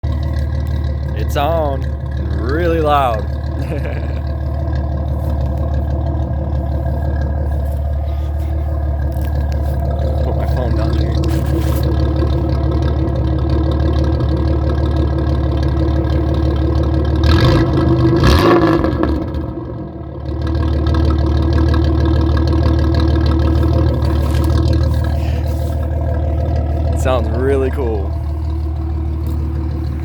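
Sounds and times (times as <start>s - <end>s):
loud car exhaust idling and revving: 0.0s - 30.0s.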